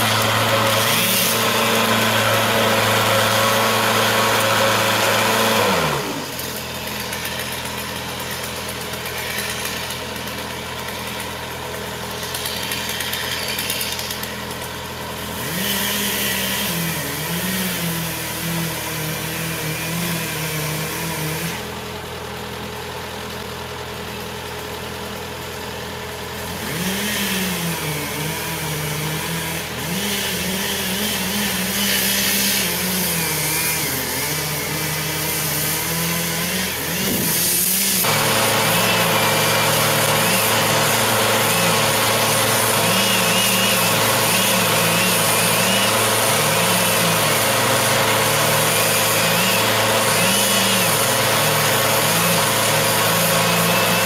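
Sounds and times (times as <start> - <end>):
chainsaw revving while cutting: 0.0 - 54.0
steady engine drone: 0.0 - 54.0.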